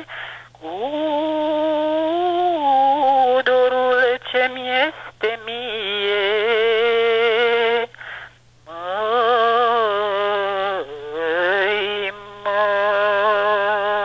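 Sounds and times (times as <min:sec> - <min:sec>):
woman singing folk song: 0:00.0 - 0:08.0, 0:08.7 - 0:14.0.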